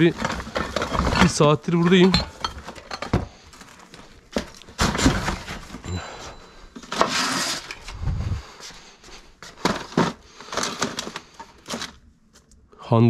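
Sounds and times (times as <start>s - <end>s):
boxes and cases being handled: 0.0s - 8.0s, 8.6s - 12.5s.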